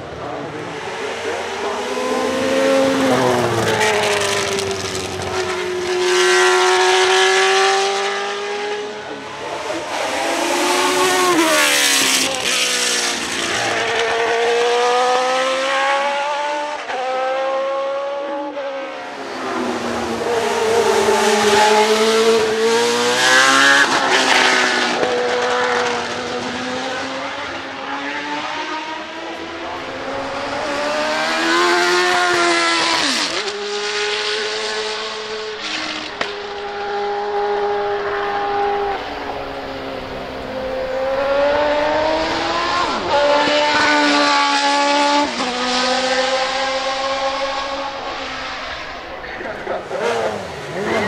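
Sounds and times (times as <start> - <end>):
racing car engine revving: 0.0 - 51.0.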